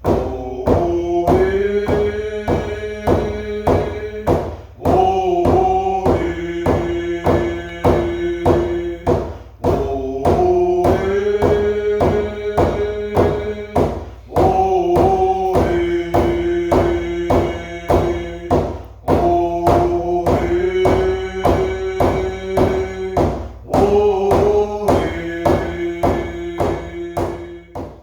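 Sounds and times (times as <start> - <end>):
drum beating steadily: 0.0 - 28.0
person singing long notes: 0.0 - 28.0.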